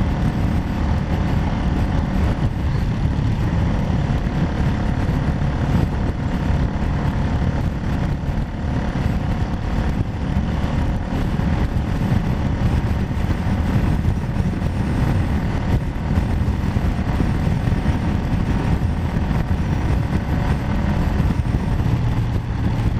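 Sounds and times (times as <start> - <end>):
engine droning: 0.0 - 22.9
wind on microphone: 0.0 - 22.9.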